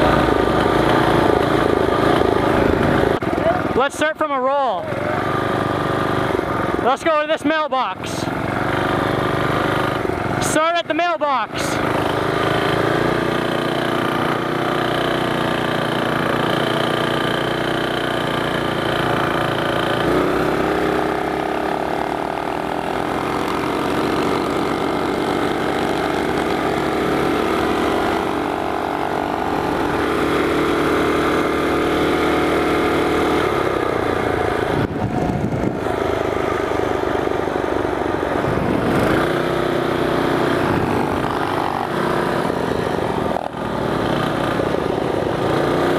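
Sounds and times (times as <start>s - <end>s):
small motorbike engine revving: 0.0s - 4.0s, 4.8s - 45.9s.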